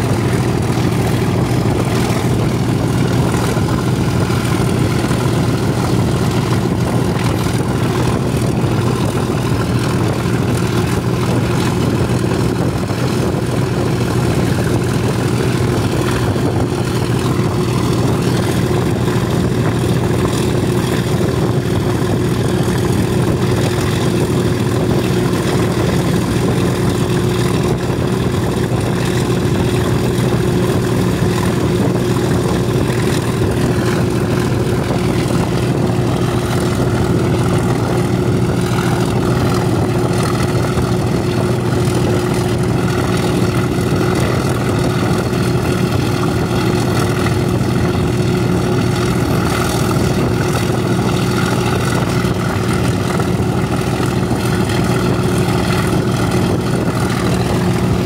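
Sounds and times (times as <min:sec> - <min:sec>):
locomotive diesel engine running: 0:00.0 - 0:58.0
wind and rail noise: 0:00.0 - 0:58.0.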